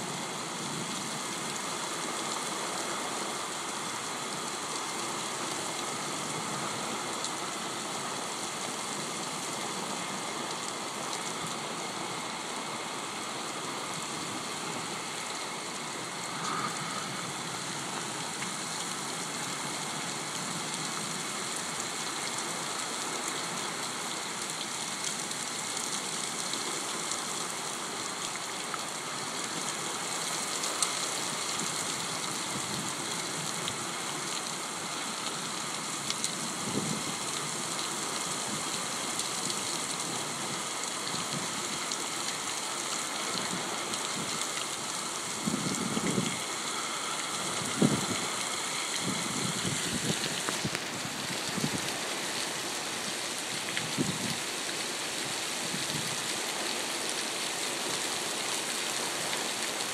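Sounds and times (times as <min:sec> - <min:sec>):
heavy rain on pavement: 0:00.0 - 0:59.9.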